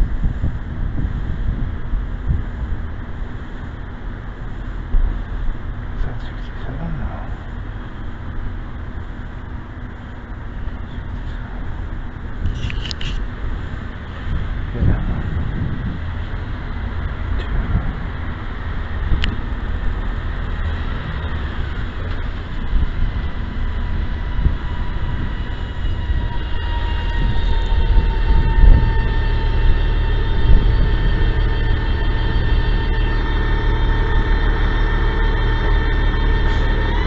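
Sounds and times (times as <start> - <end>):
bus engine rumble: 0.0 - 37.0
high steady whine: 0.0 - 37.0.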